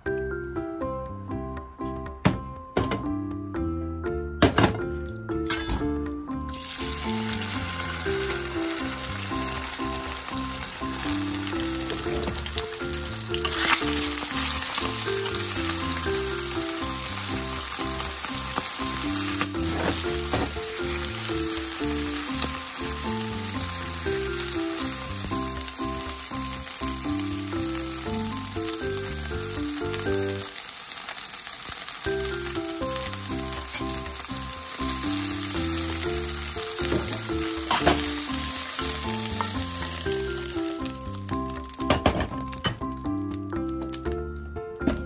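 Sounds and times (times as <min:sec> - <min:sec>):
background music: 0:00.0 - 0:30.6, 0:32.0 - 0:45.0
chopsticks turning food in pan: 0:06.5 - 0:43.2
livers sizzling in oil: 0:06.5 - 0:44.0.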